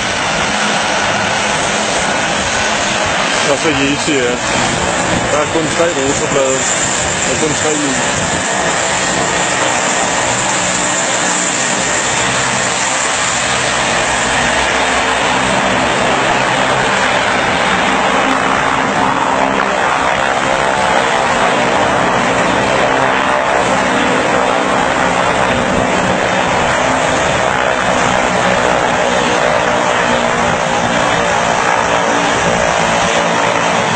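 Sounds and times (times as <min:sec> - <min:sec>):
high engine whine: 0:00.0 - 0:33.9
turboprop propeller drone: 0:00.0 - 0:33.9.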